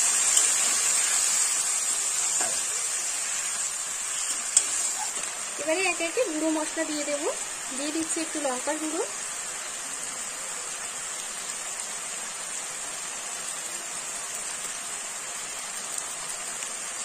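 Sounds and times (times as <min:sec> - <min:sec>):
masala sizzling in oil: 0:00.0 - 0:17.0.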